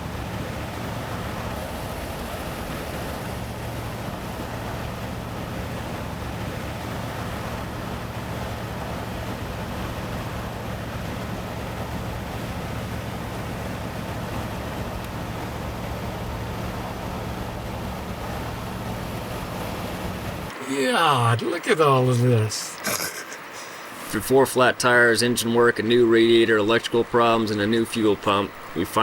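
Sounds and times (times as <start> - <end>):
vehicle engine drone: 0.0 - 24.2.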